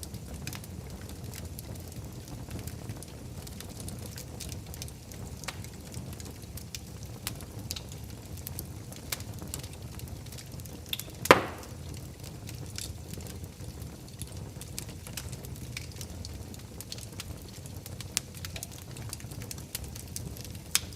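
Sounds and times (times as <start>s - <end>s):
fire low rumble: 0.0s - 20.9s
wood fire crackling and popping: 0.0s - 20.9s.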